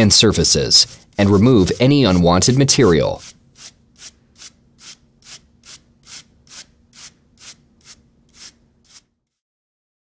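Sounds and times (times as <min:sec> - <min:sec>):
wire brush scrubbing metal: 0:00.1 - 0:09.1.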